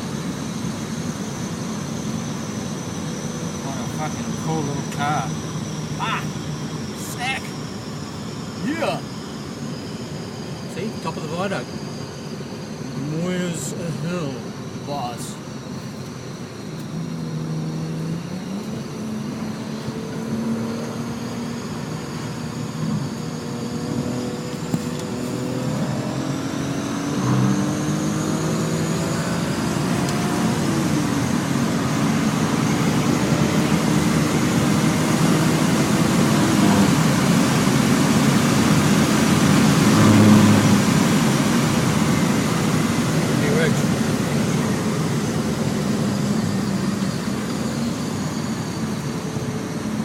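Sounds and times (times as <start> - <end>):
car engine heard from cabin: 0.0 - 50.0.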